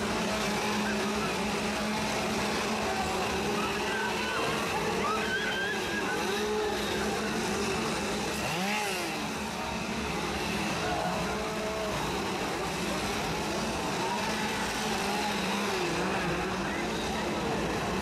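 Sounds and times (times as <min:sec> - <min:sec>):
chainsaws revving: 0:00.0 - 0:18.0.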